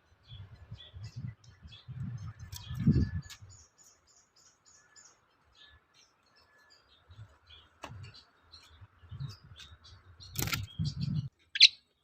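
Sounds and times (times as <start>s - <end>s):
bird singing high chirping notes: 0.0s - 11.9s.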